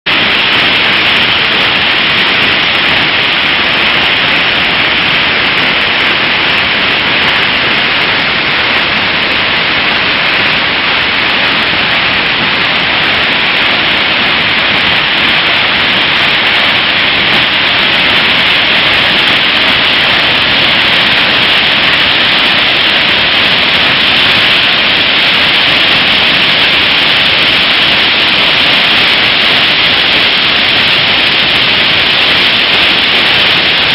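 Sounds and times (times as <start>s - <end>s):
loud rushing water: 0.0s - 33.9s.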